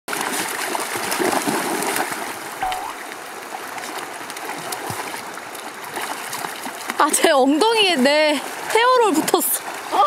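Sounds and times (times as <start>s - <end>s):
dogs splashing through water: 0.1s - 10.0s.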